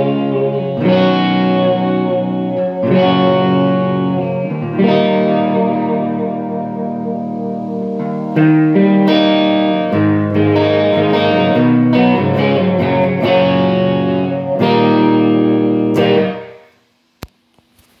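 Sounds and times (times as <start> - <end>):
electric guitar chords ringing: 0.0 - 17.0.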